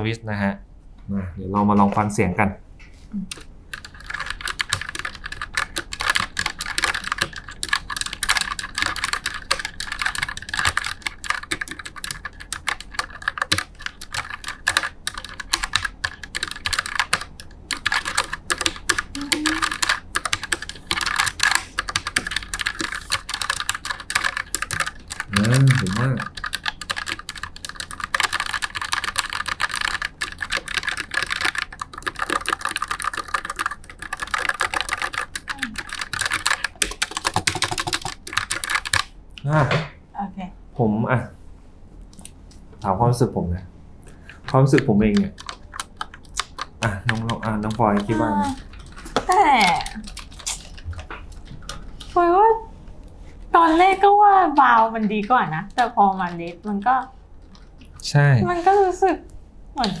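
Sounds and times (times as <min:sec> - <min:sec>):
fast mechanical keyboard typing: 0:03.3 - 0:39.2, 0:44.1 - 0:52.7, 0:53.5 - 0:58.6.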